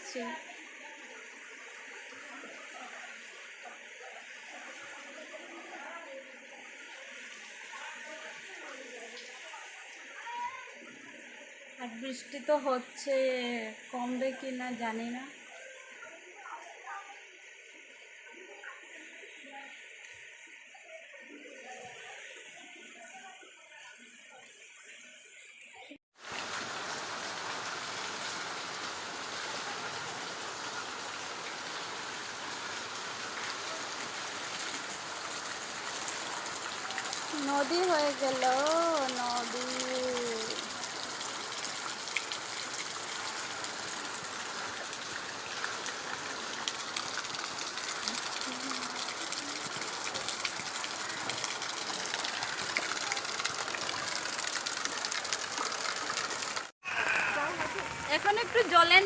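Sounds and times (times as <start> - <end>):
rain falling: 0.0 - 21.6, 26.2 - 59.0.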